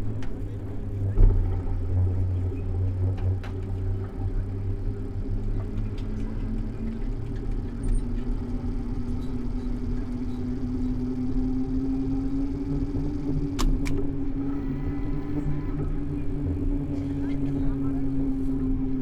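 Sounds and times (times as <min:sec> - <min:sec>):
low traffic rumble: 0:00.0 - 0:19.0
vehicle engine running close: 0:00.0 - 0:19.0.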